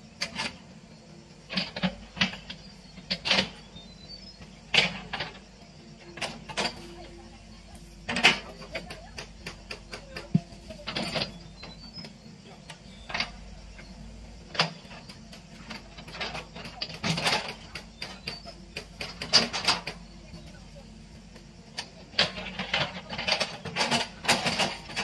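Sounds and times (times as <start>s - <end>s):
faint engine hum: 0.0s - 25.0s.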